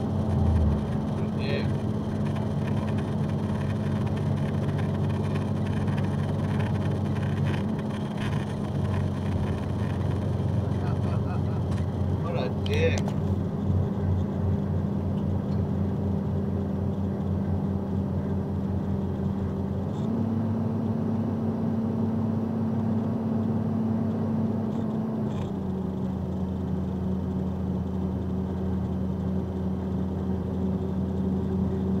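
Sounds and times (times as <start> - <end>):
vehicle engine and tyres droning: 0.0 - 32.0.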